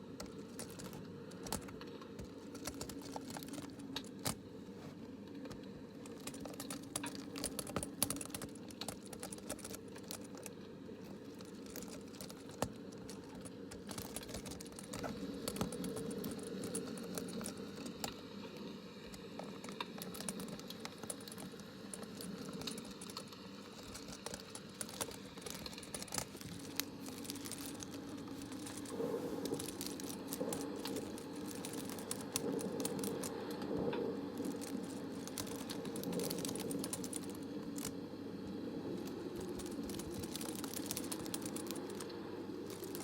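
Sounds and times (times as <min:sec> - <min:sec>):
tapping on small hard objects: 0:00.0 - 0:04.4, 0:05.4 - 0:18.2, 0:19.1 - 0:38.0, 0:39.0 - 0:42.1
low background noise: 0:00.0 - 0:43.0.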